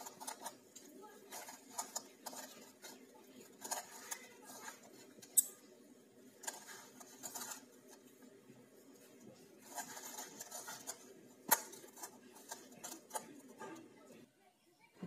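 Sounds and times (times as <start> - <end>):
hand scraping dough in metal bowl: 0.0 - 5.7, 6.3 - 14.1.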